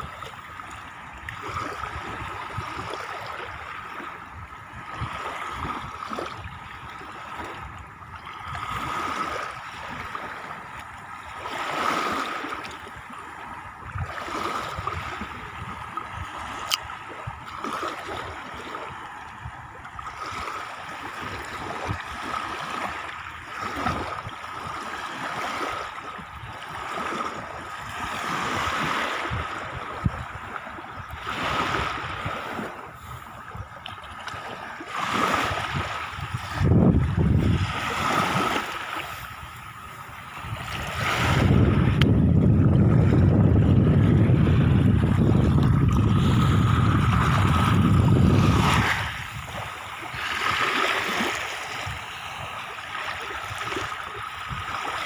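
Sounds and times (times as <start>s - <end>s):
small waves washing onto shore: 0.0s - 55.0s.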